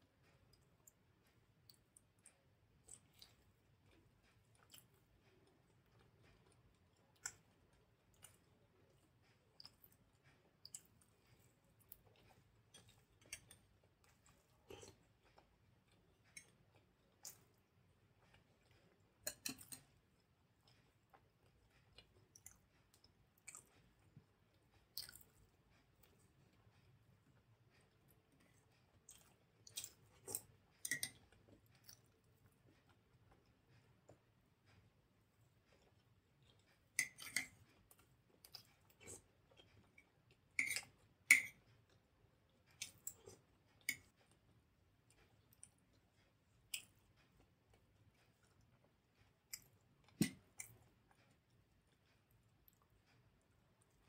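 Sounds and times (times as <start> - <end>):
person chewing food: 0.0 - 54.0
soft eating sounds: 0.0 - 54.0.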